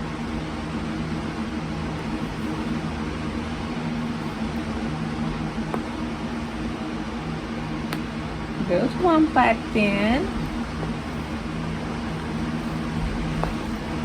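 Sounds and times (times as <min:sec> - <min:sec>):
appliance humming with hiss: 0:00.0 - 0:14.0.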